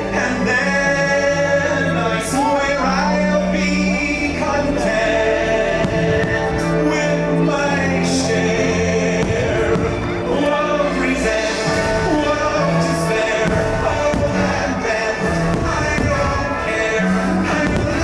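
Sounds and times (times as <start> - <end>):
choir singing: 0.0 - 18.0
show music backing: 0.0 - 18.0.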